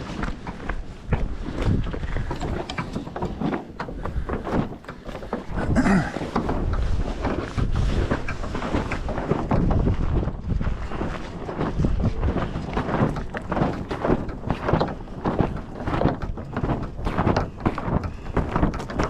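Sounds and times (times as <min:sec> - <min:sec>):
knocks and rattles: 0:00.0 - 0:19.0
wind buffeting microphone: 0:00.0 - 0:19.0.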